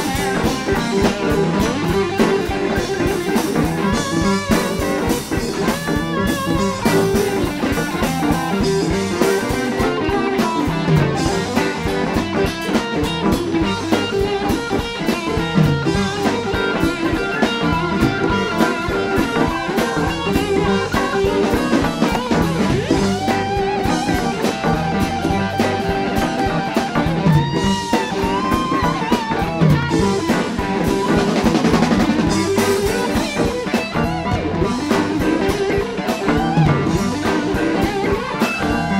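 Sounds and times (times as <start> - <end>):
blues rock band playing: 0.0 - 38.9.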